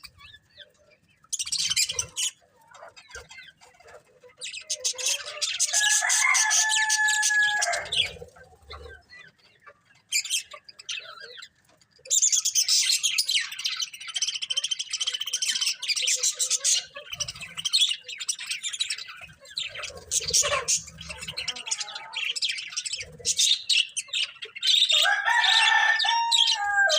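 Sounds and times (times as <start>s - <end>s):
budgerigars chirping and warbling: 0.0s - 26.9s.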